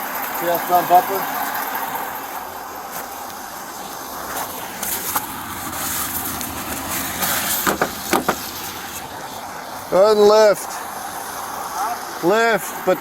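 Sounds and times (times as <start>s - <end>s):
vehicle road noise hiss: 0.0s - 13.0s.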